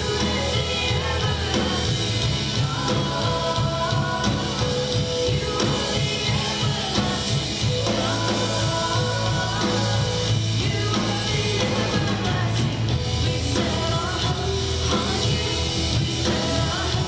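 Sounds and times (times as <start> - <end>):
drum kit: 0.0 - 17.0
low bass line: 0.0 - 17.0
women singing into microphones: 0.0 - 17.0.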